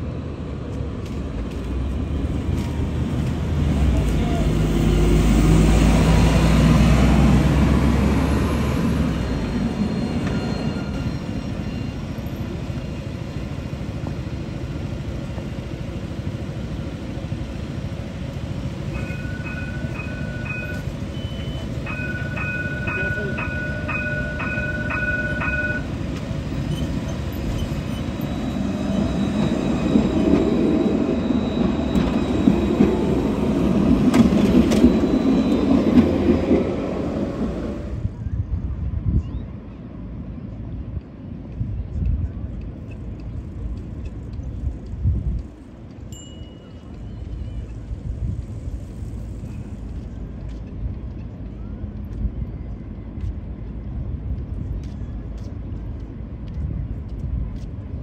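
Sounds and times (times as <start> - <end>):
tram rumble: 0.0 - 58.0.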